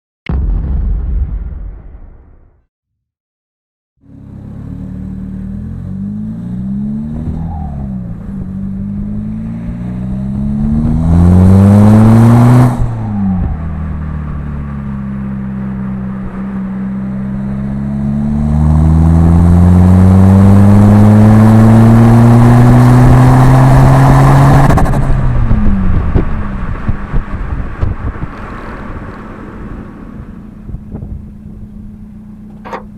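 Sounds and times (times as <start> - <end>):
diesel engine idling and revving: 4.0 - 32.9.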